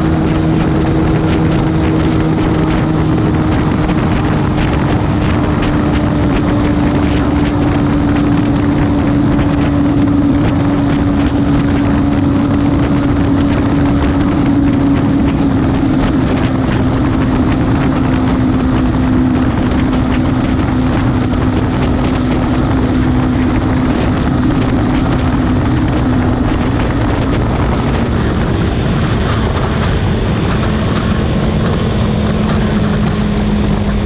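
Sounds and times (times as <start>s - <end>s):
motorcycle engine cruising: 0.0s - 34.0s
wind rush on microphone: 0.0s - 34.0s.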